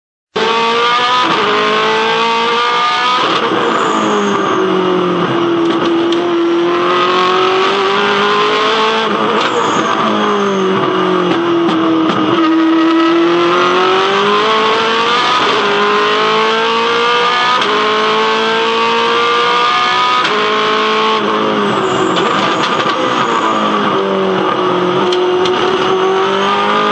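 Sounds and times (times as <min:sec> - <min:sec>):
racing engine revving: 0:00.4 - 0:26.9.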